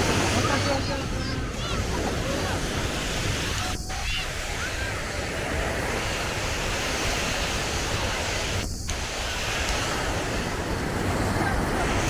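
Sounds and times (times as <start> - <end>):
ocean surf breaking: 0.0 - 12.0
wind rumbling on microphone: 0.0 - 12.0.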